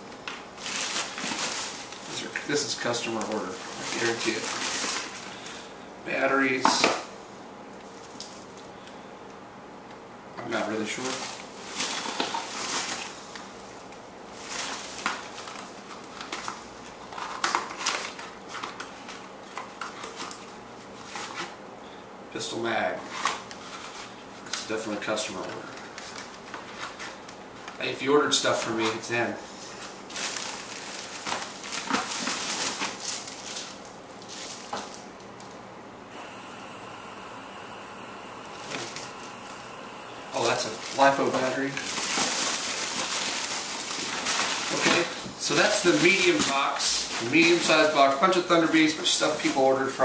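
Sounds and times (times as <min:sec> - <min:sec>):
packaging rustling and crinkling: 0:00.0 - 0:07.1, 0:10.4 - 0:21.6, 0:22.9 - 0:35.6, 0:38.5 - 0:39.6, 0:40.3 - 0:50.0
faint steady hiss: 0:00.0 - 0:50.0.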